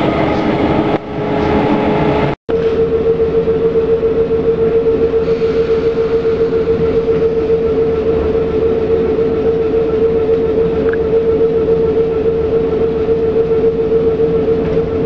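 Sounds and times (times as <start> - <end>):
steady electric train whine: 0.0 - 15.0.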